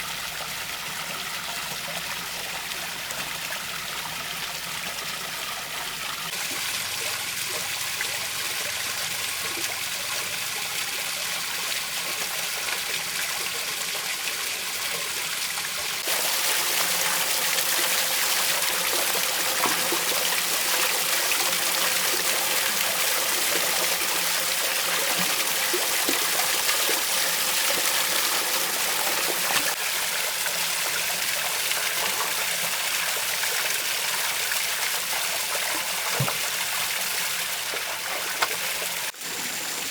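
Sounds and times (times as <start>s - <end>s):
water splashing down stone waterfall: 0.0s - 39.9s.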